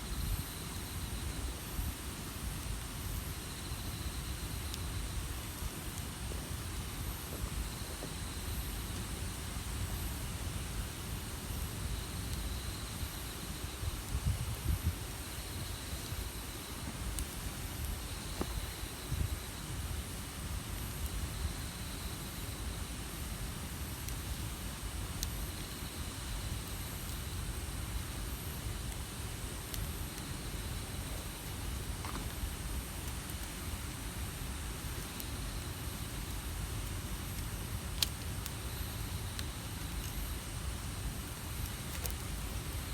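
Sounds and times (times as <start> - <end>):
campfire burning with pops: 0.4 - 42.9.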